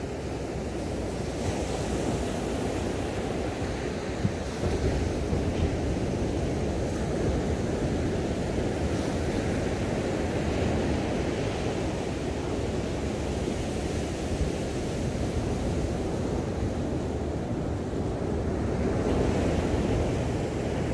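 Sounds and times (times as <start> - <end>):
ocean surf breaking on beach: 0.0 - 20.9
wind rumbling on microphone: 0.0 - 20.9.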